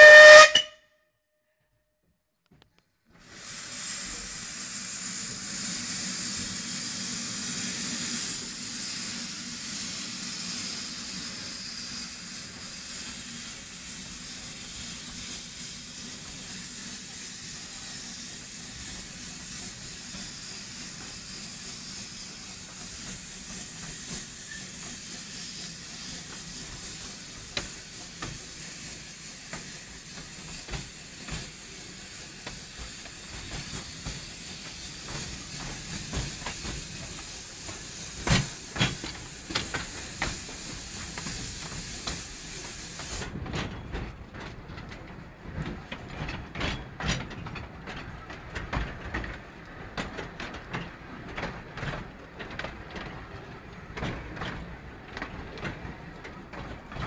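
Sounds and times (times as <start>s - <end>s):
steam locomotive hissing steam: 0.0s - 0.7s, 3.1s - 57.0s.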